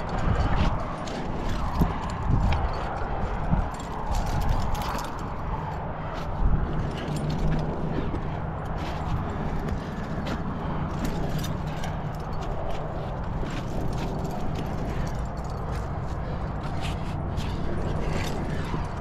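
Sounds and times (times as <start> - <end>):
climbing gear clinking: 0.0 - 19.0
steady low rumble: 0.0 - 19.0.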